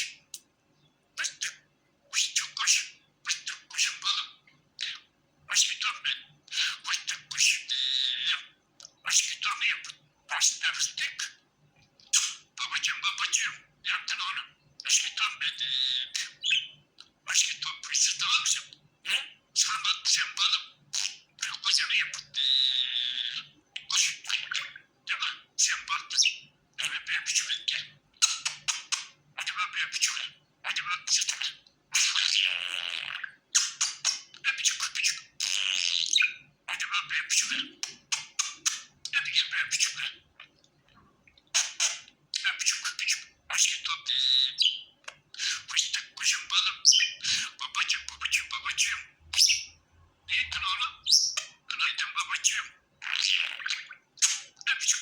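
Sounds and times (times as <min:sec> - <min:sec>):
budgerigar chirps and squawks: 0:01.2 - 0:11.4, 0:12.1 - 0:40.6, 0:41.5 - 0:55.0.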